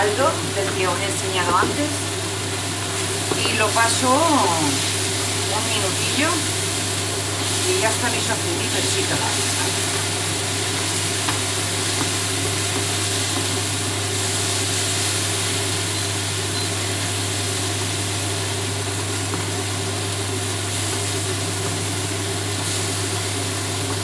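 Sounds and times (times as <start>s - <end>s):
sofrito sizzling in a frying pan: 0.0s - 24.0s.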